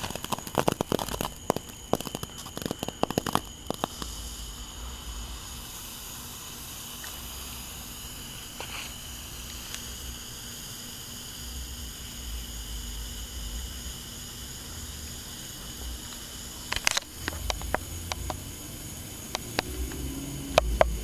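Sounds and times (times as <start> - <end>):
sparkler firework crackling and hissing: 0.0 - 21.0.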